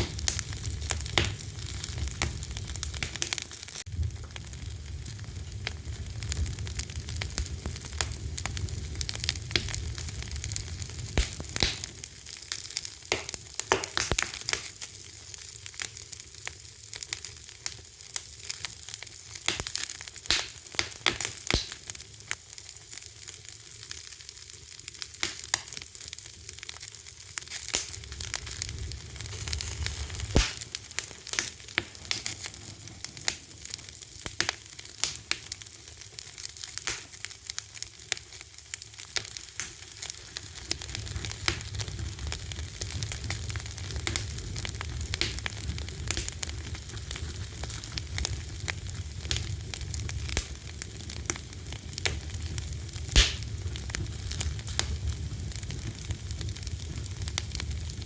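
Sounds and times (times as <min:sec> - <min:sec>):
low rumble of flames: 0:00.0 - 0:22.3, 0:25.8 - 0:36.8, 0:37.4 - 0:58.0
sharp pops of fire: 0:00.0 - 0:23.6, 0:24.9 - 0:26.1, 0:26.7 - 0:58.0
wood fire crackling: 0:00.0 - 0:58.0.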